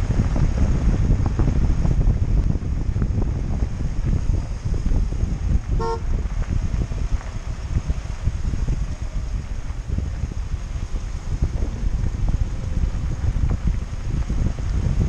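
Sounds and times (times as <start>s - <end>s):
tyres crackling on gravel: 0.0s - 15.0s
wind buffeting microphone: 0.0s - 15.0s.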